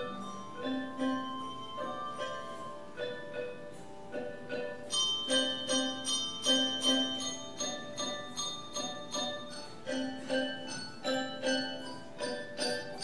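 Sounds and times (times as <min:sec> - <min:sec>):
handbell choir playing: 0:00.0 - 0:13.0.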